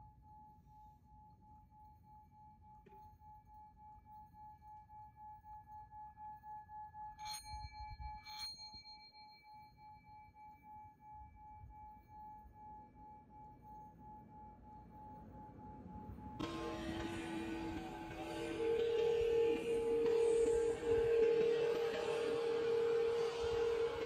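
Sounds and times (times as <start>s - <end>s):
sustained ringing tone: 1.9s - 24.0s.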